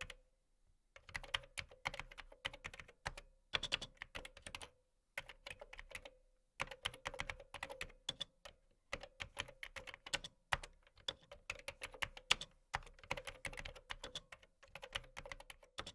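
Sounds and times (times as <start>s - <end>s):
computer keyboard typing: 1.0s - 15.9s.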